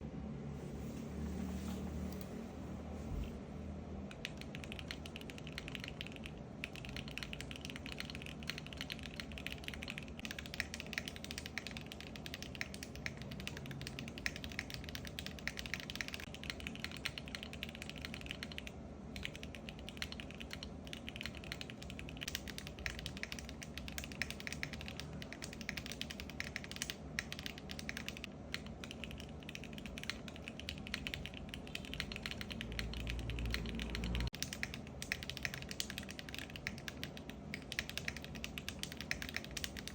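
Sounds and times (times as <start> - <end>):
mechanical keyboard typing: 4.1 - 39.9.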